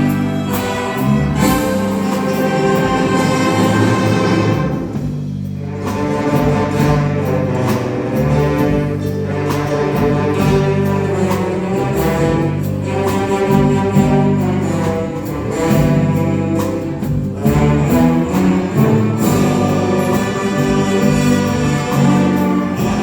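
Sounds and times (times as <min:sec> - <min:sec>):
orchestra with bowed low strings: 0:00.0 - 0:23.0.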